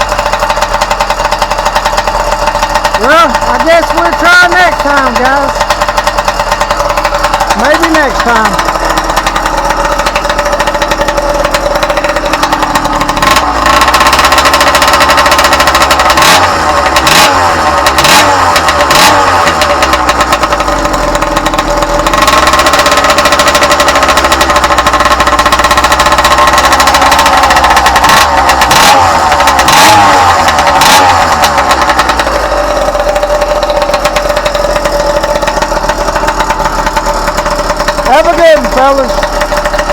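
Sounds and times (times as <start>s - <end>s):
motorcycle engine idling and revving: 0.0s - 39.9s
sharp engine cracks: 0.0s - 39.9s.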